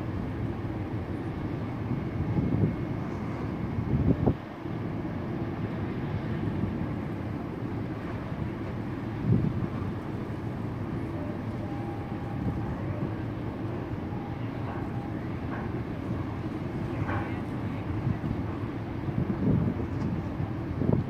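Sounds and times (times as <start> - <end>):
ship engines rumbling: 0.0 - 21.0
wind buffeting microphone: 0.0 - 21.0.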